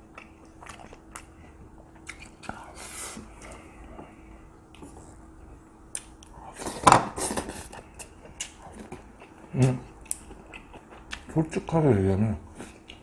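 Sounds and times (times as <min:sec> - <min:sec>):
low hummed sound: 0:00.0 - 0:13.0.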